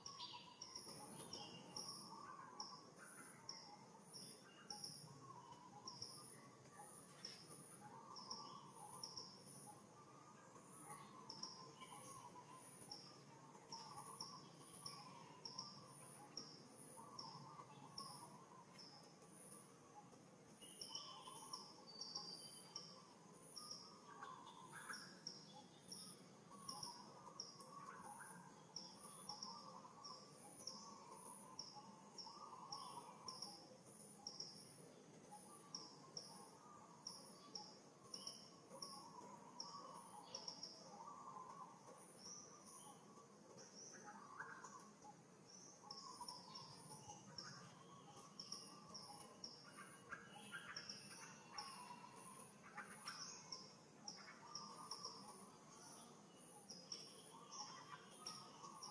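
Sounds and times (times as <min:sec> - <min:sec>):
soft bird chirping: 0:00.0 - 0:58.9.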